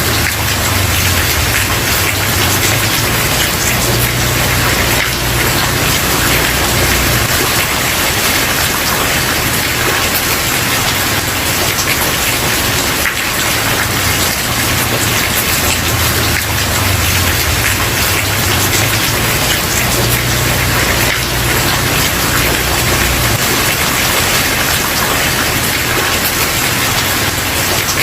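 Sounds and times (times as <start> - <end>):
heavy rain on wooden porch: 0.0 - 28.0.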